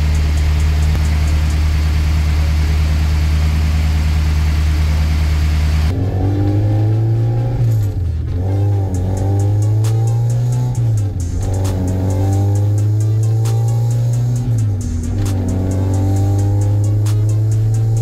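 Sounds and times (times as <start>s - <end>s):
car engine revving: 0.0s - 18.0s
steady low drone: 0.0s - 18.0s.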